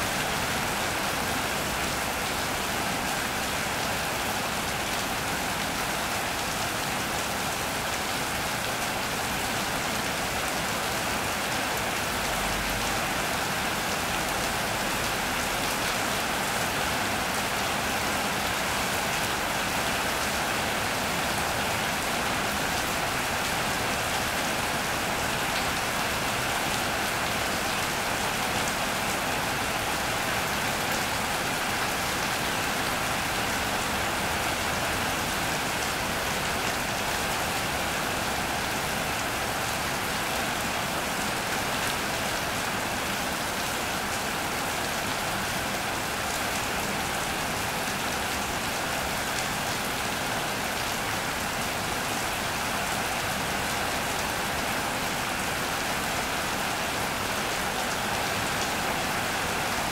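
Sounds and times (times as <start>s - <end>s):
rain on an iron roof: 0.0s - 59.9s.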